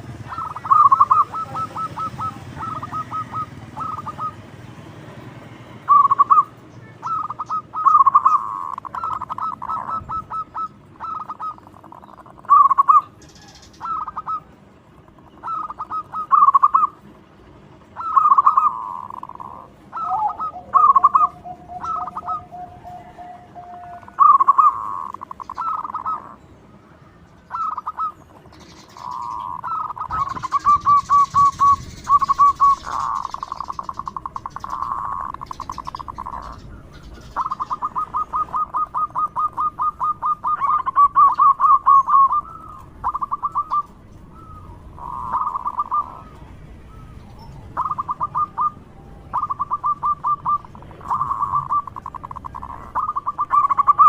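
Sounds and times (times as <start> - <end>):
dove cooing: 0.0 - 4.6, 5.8 - 26.5, 27.4 - 54.0.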